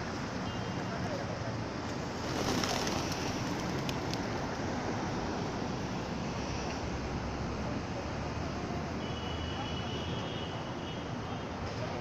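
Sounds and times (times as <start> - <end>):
street traffic hum: 0.0 - 12.0.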